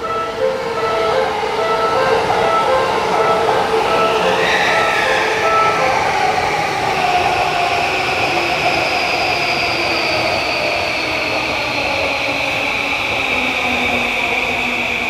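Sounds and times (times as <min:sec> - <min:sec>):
train cars rumbling: 0:00.0 - 0:15.0.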